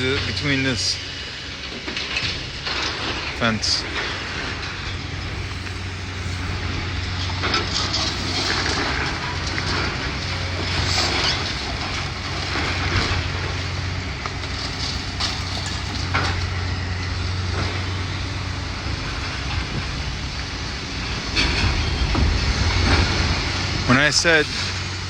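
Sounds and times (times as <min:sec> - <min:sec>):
debris crunching and clattering: 0:00.0 - 0:25.0
demolition machinery running: 0:00.0 - 0:25.0.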